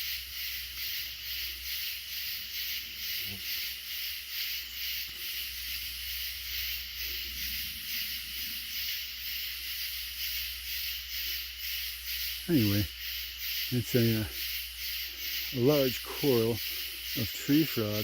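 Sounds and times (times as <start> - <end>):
tree frogs chorus: 0.0 - 18.0.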